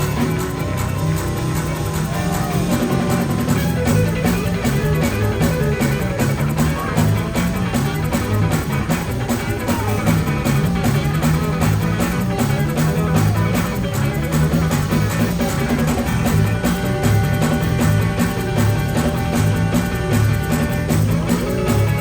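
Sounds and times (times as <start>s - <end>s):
bass: 0.0s - 22.0s
drum kit: 0.0s - 22.0s
electric guitar: 0.0s - 22.0s.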